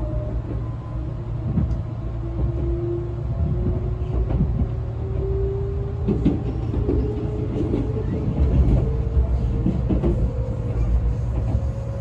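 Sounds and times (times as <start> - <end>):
train rumbling on rails: 0.0 - 12.0
rail joint clacks: 1.4 - 2.8, 3.4 - 12.0.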